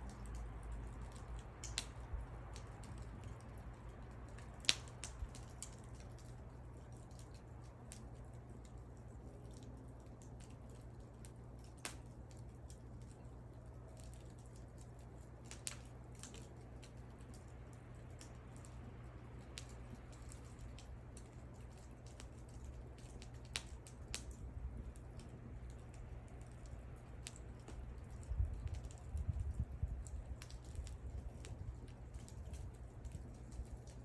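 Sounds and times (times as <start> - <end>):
wood fire crackling and rumbling: 0.0 - 34.0.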